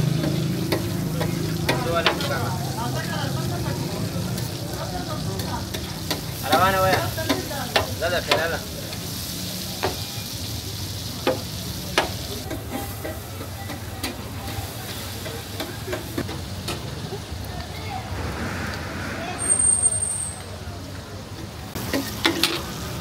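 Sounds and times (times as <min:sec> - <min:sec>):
liver sizzling on hot plate: 0:00.0 - 0:17.4, 0:21.7 - 0:23.0.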